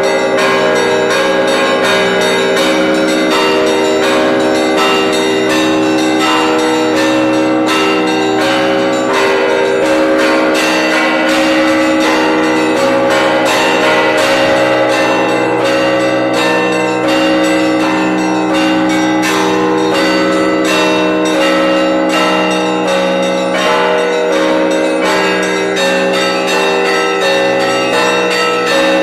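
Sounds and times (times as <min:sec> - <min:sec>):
church bells ringing rapidly: 0:00.0 - 0:29.0.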